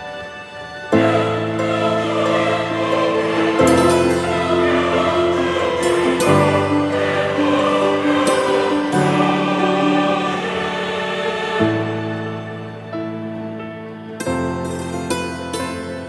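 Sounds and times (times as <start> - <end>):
choral music with held chords: 0.0 - 16.0.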